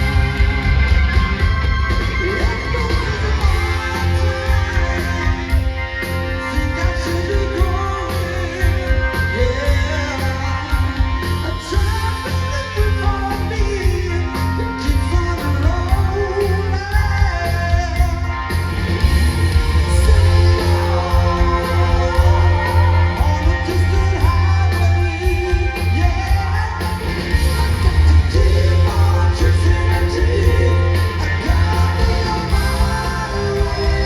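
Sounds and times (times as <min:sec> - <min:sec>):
live rock band with singer: 0:00.0 - 0:34.0.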